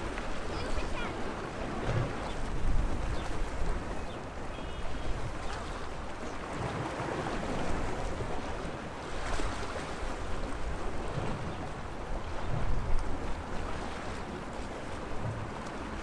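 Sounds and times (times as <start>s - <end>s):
sea waves washing against shore: 0.0s - 16.0s.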